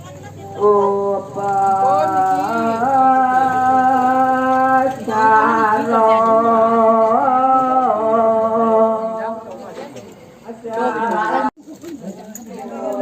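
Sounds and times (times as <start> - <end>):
person chanting slowly: 0.3 - 11.6.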